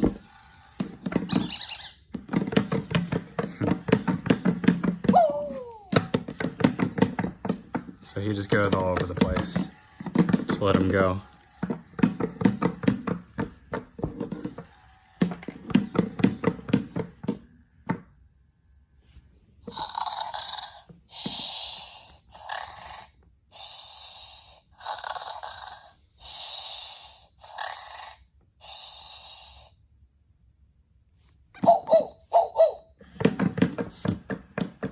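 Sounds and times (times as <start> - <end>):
toy speaker panting breaths: 0.0 - 17.9, 19.6 - 29.9, 31.6 - 34.9.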